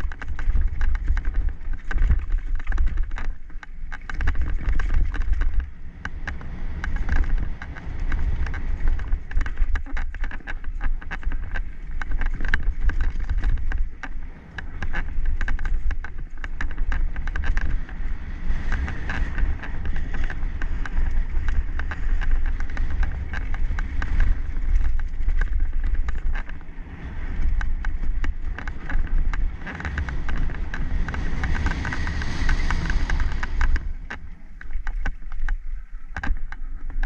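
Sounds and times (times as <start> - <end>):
bike chain and frame rattling: 0.0 - 26.7, 27.3 - 37.0
wind buffeting microphone: 0.0 - 37.0.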